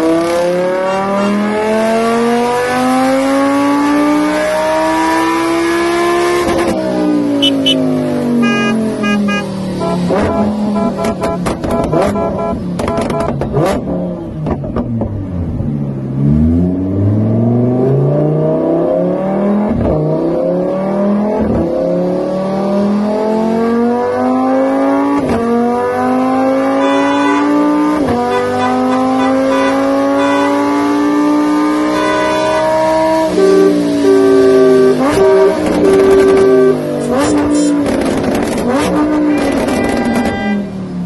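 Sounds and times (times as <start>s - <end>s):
car engine accelerating: 0.0s - 40.3s.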